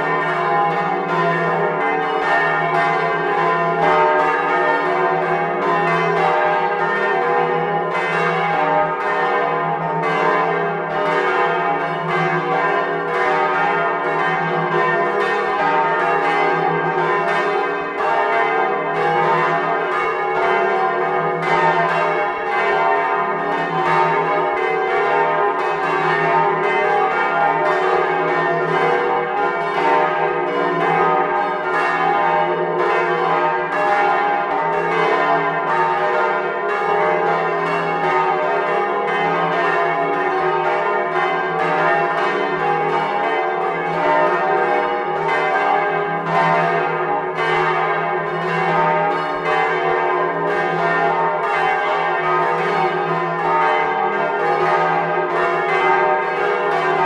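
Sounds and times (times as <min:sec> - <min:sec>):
church bells ringing: 0:00.0 - 0:57.0.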